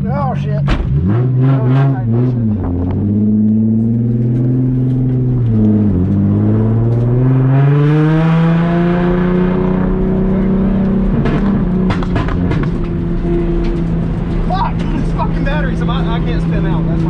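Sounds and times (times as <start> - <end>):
car engine running under load: 2.0 - 17.0.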